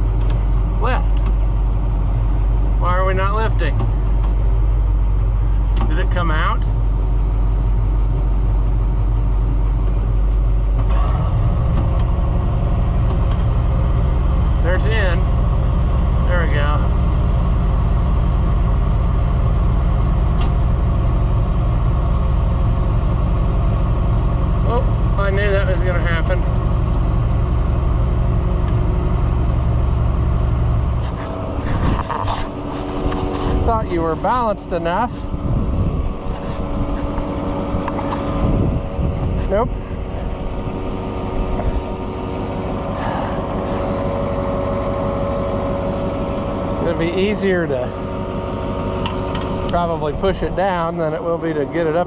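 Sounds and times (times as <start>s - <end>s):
steady whine: 0.0s - 52.0s
tractor engine rumbling: 0.0s - 52.0s.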